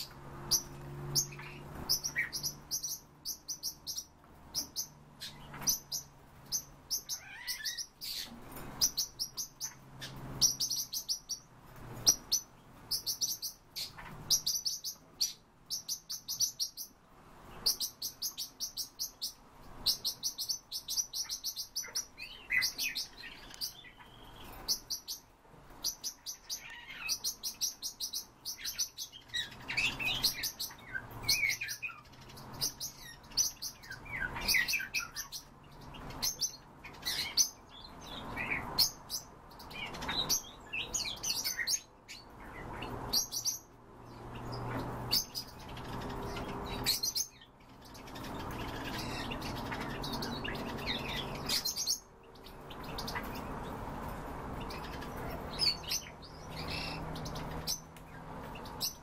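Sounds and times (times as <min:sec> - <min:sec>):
finches chirping and twittering: 0:00.0 - 0:59.0.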